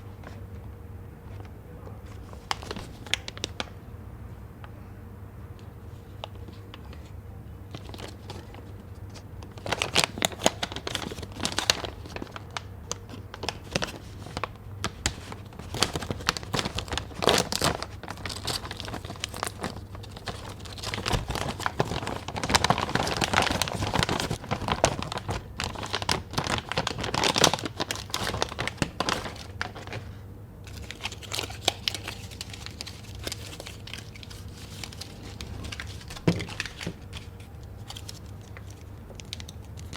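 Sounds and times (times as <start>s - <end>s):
snack packaging crinkling and tearing: 2.2s - 3.7s, 7.7s - 39.9s.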